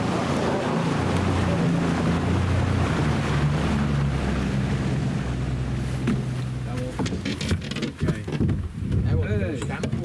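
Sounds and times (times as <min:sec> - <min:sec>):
motorboat engine: 0:00.0 - 0:10.0
rush of wind and water: 0:00.0 - 0:10.0.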